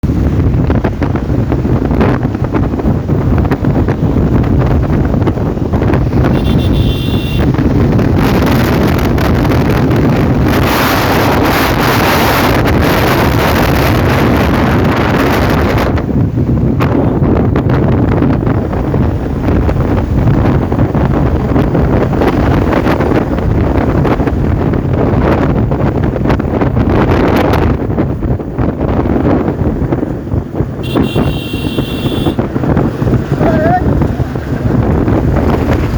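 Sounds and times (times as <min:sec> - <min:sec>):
road noise: 0:00.0 - 0:35.9
wind buffeting microphone: 0:00.0 - 0:35.9
motorcycle engine running: 0:00.1 - 0:35.9.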